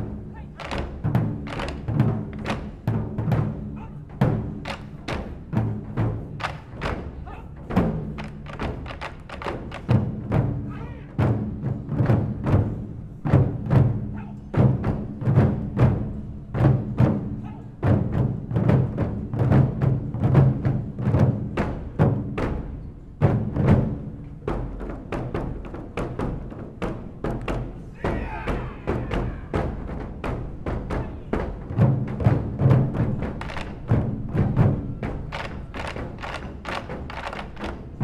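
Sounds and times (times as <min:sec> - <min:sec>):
taiko drums playing: 0:00.0 - 0:38.0.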